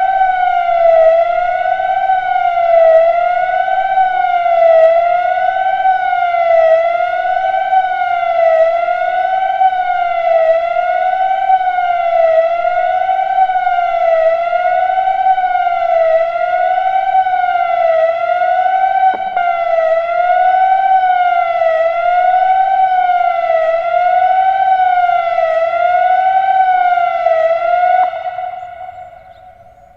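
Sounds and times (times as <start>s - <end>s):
emergency siren wailing: 0.0s - 29.9s.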